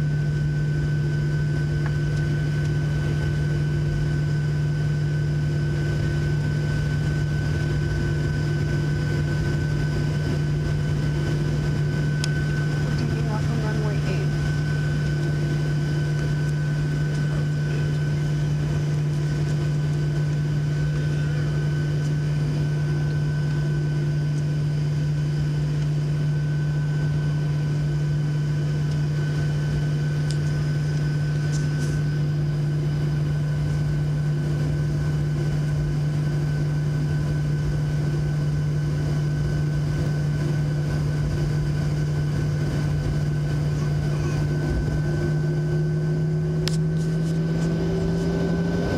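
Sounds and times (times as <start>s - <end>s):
constant whine tones: 0.0s - 48.9s
jet engine drone in cabin: 0.0s - 48.9s.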